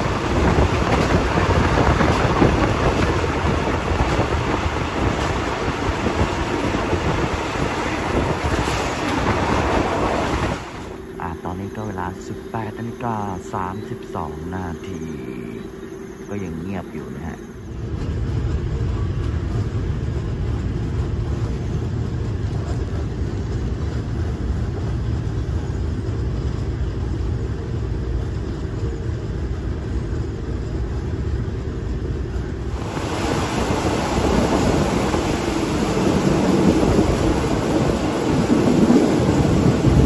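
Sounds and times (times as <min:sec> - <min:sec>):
rushing wind and wheels: 0:00.0 - 0:11.2, 0:17.6 - 0:40.0
train low rumble: 0:00.0 - 0:40.0.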